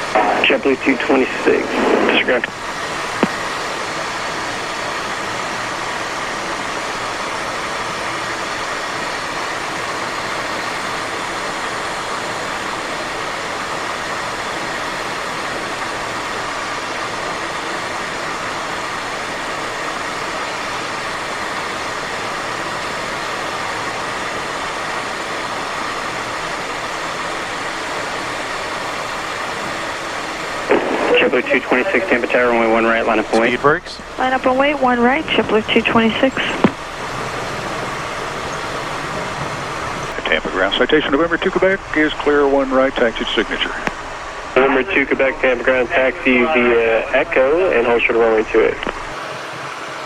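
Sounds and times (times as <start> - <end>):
cockpit airflow noise: 0.0 - 50.0
jet engine noise: 0.0 - 50.0.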